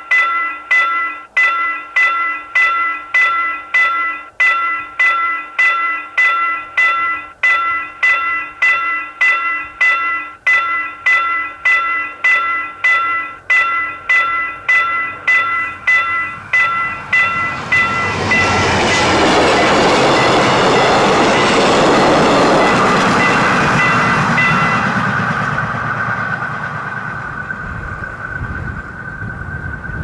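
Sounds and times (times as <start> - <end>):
level-crossing bell striking: 0.0 - 27.6
passing train rumble: 0.0 - 30.0
steady high tone ringing: 0.0 - 30.0.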